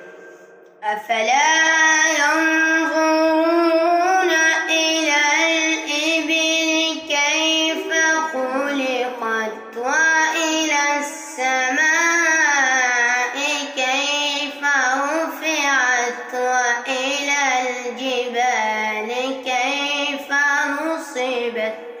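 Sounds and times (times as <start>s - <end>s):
boy reciting melodically: 0.0s - 22.0s.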